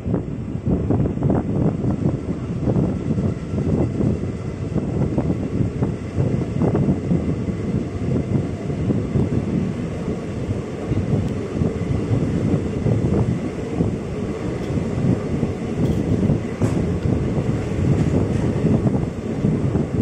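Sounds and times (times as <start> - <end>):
train rumbling on track: 0.0 - 20.0
wind buffeting microphone: 0.0 - 20.0.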